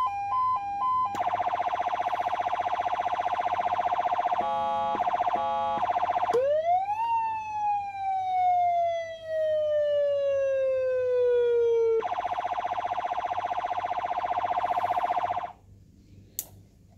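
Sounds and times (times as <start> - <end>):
rapidly pulsing siren tone: 0.0 - 15.6
siren wail: 0.0 - 15.6.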